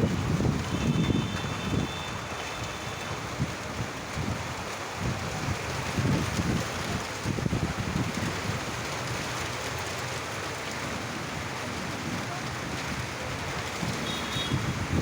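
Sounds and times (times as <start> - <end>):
wind buffeting microphone: 0.0 - 2.4, 3.1 - 15.0
heavy rain: 0.0 - 15.0.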